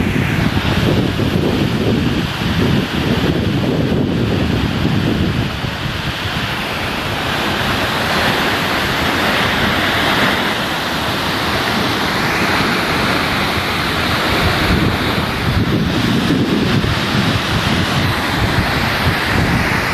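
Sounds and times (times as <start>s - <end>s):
waves splashing: 0.0s - 19.9s
wind buffeting microphone: 0.0s - 19.9s.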